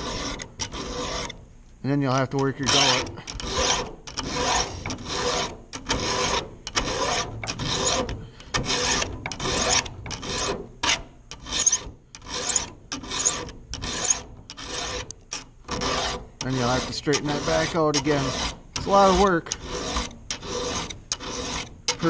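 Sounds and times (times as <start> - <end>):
file rasping on steel: 0.0 - 22.0.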